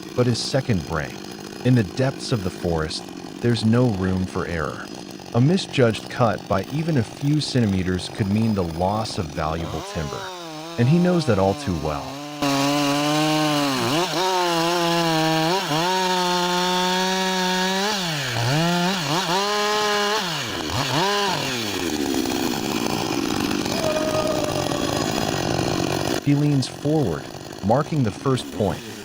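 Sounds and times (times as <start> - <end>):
chainsaw cutting at high revs: 0.0 - 29.0.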